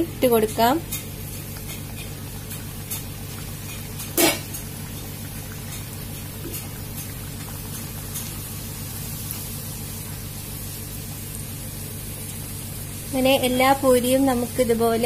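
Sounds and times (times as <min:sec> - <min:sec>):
oil bubbling and sizzling: 0:00.0 - 0:15.0.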